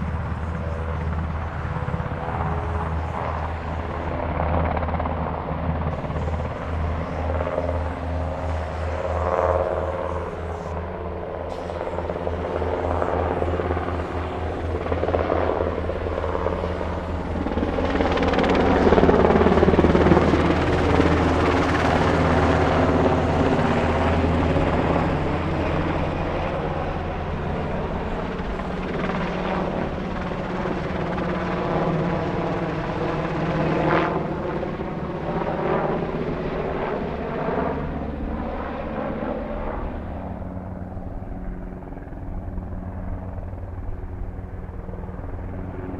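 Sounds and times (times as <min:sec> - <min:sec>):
helicopter rotor chopping: 0:00.0 - 0:45.9
turbines whining: 0:00.0 - 0:45.9.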